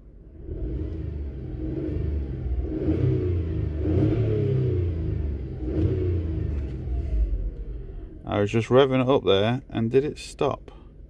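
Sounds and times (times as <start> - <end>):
car engine revving and misfiring: 0.0 - 9.0.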